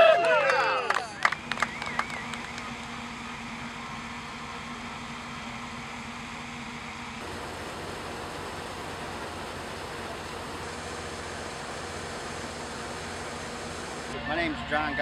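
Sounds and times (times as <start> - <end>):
truck engine running: 1.1 - 15.0.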